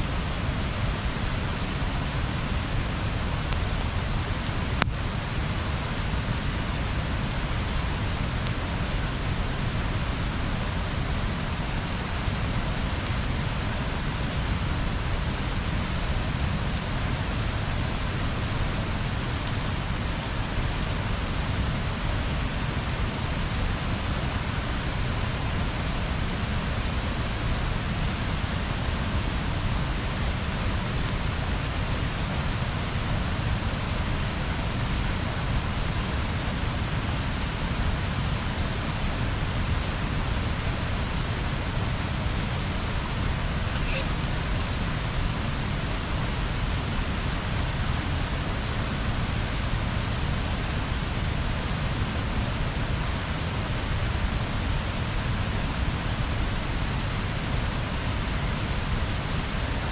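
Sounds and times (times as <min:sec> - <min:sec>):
bonfire burning: 0:00.0 - 0:54.0.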